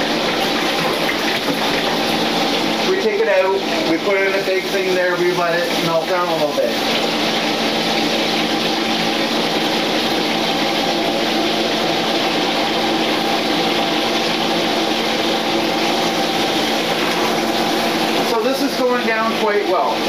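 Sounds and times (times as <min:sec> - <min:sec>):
electric fan whirring: 0:00.0 - 0:20.0.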